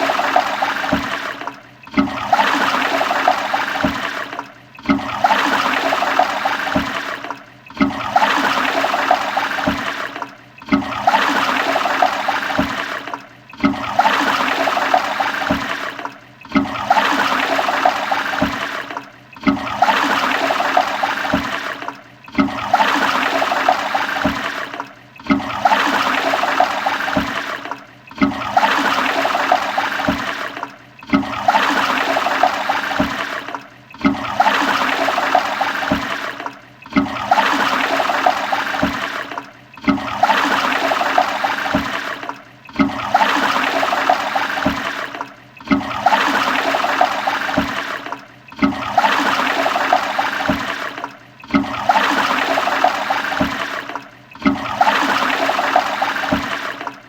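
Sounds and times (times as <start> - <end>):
toilet flushing: 0.0 - 57.0.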